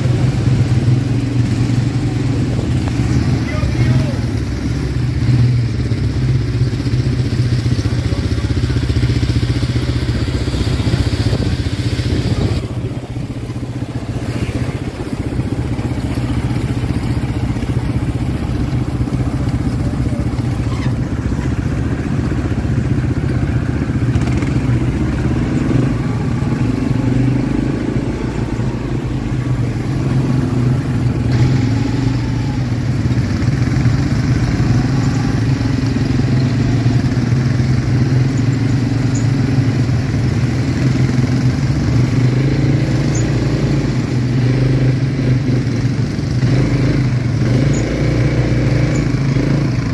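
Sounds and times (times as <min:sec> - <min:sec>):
quad bike engine running: 0:00.0 - 0:49.9.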